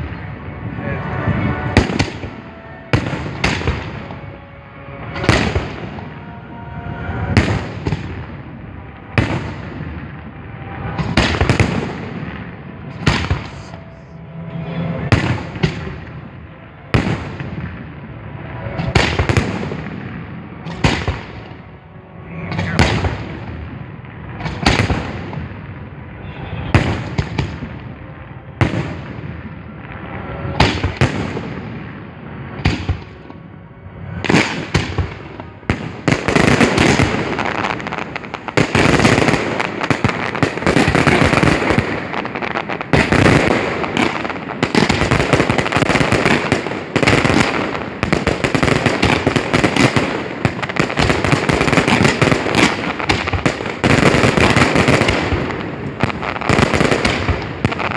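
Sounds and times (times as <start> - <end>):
fireworks booming: 0.0 - 21.8, 22.5 - 57.9
fireworks barrage of bangs and crackle: 0.0 - 57.9.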